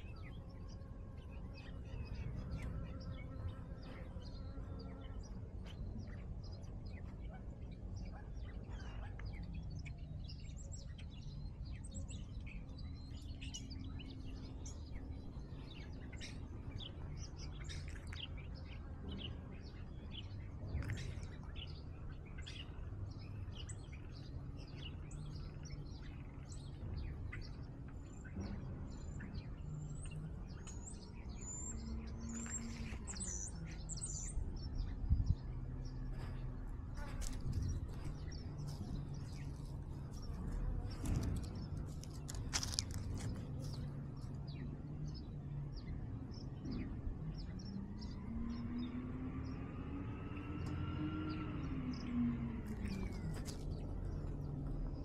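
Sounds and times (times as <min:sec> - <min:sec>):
steady low rumble: 0:00.0 - 0:48.2, 0:48.8 - 0:55.0
small birds chirping: 0:00.0 - 0:55.0.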